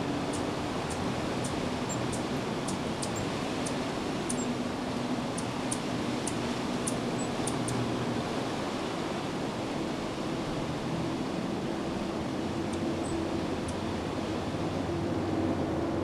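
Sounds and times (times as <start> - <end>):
steady outdoor background rush: 0.0 - 16.0.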